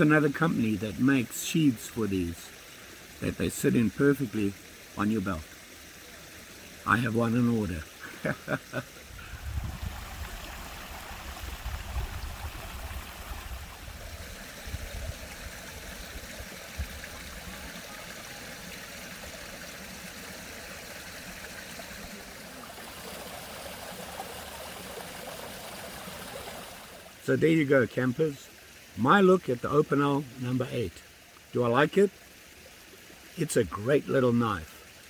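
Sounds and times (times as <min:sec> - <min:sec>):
small stream rushing: 0:00.0 - 0:35.0.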